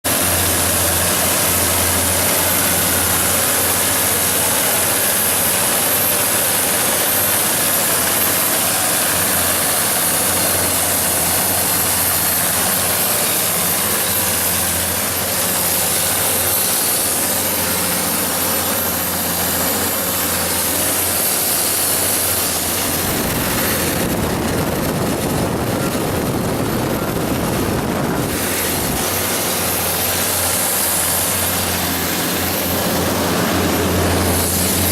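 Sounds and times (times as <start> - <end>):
diesel generator running: 0.0 - 34.9.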